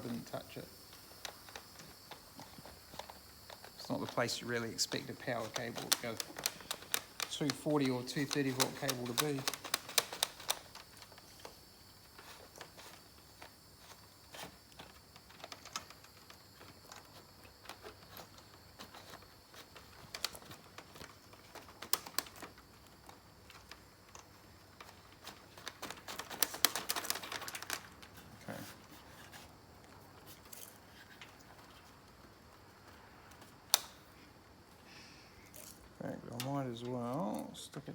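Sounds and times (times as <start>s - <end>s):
clicks and taps of wiring: 0.0s - 34.2s
hands rustling wiring: 0.0s - 37.9s.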